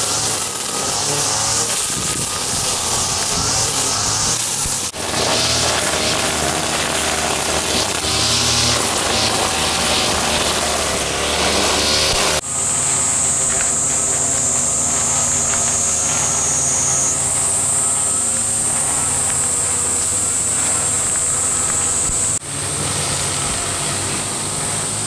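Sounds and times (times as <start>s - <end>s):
shrill cicada chorus: 0.0s - 22.4s
brush cutter cutting grass: 0.0s - 25.0s.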